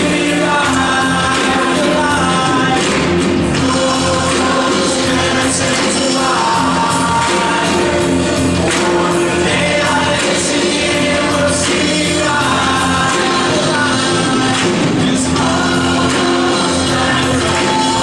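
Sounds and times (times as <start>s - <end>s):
large choir singing: 0.0s - 18.0s
hand claps: 0.1s - 18.0s.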